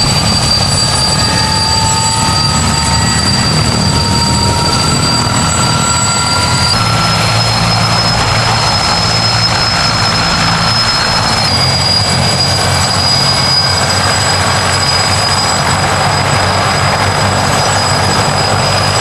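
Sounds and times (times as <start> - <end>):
helicopter rotors droning: 0.0 - 19.0
helicopter turbine whine: 0.0 - 19.0.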